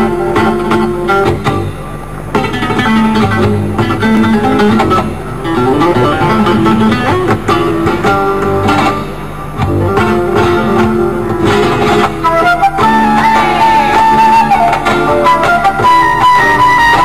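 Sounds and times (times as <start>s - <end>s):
acoustic guitars picking melody: 0.0s - 17.0s
cajon drumming: 0.0s - 17.0s
fretless bass line: 0.0s - 17.0s.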